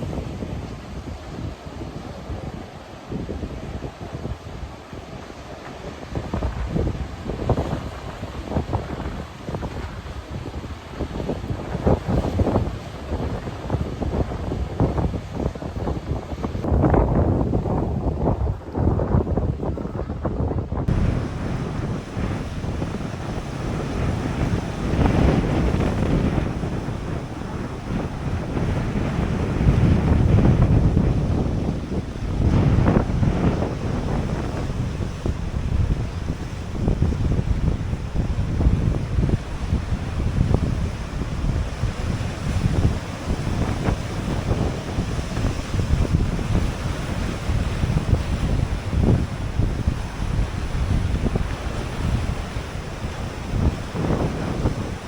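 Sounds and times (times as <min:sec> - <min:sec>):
ocean surf: 0:00.0 - 0:55.0
wind buffeting microphone: 0:00.0 - 0:55.0.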